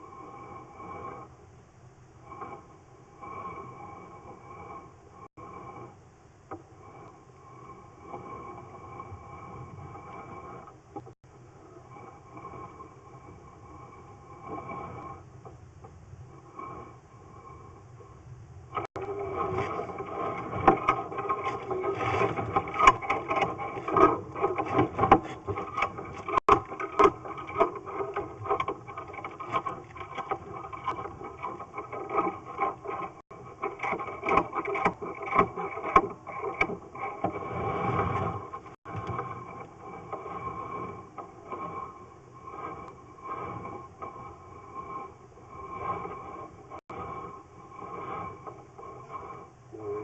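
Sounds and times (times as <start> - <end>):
cable scraping through a drain: 0.0 - 1.4, 2.1 - 50.0
continuous squeal: 0.0 - 50.0.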